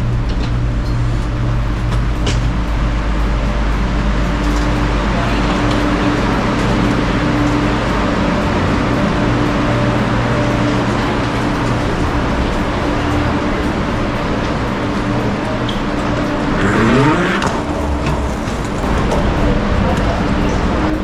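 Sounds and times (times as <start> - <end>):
train running noise: 0.0 - 21.0.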